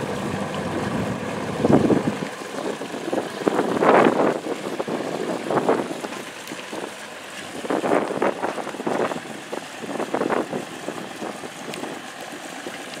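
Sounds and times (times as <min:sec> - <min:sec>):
wind gusting on microphone: 0:00.0 - 0:06.9, 0:07.6 - 0:12.0
outboard motors idling: 0:00.0 - 0:13.0.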